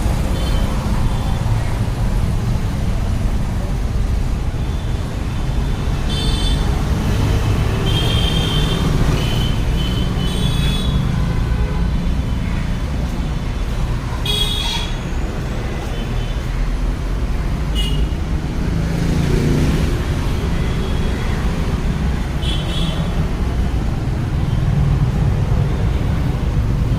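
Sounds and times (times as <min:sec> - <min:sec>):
road traffic rumble: 0:00.0 - 0:26.9.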